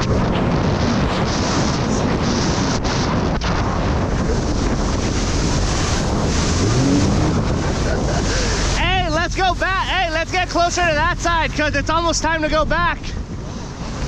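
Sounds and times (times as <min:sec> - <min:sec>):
jet ski engine running: 0:00.0 - 0:14.0
water rushing: 0:00.0 - 0:14.0
wind buffeting microphone: 0:00.0 - 0:14.0.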